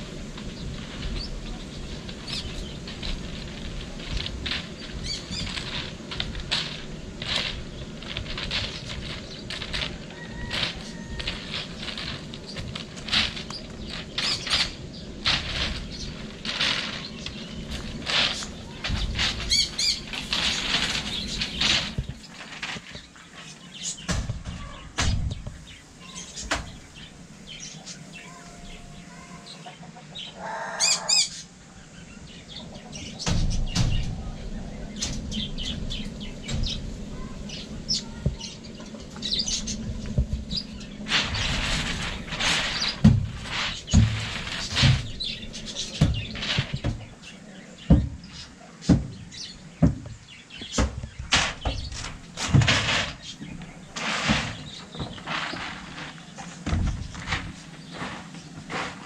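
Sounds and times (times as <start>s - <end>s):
steady low hum: 0.0s - 29.1s, 29.8s - 59.0s
birds chirping: 0.0s - 59.0s.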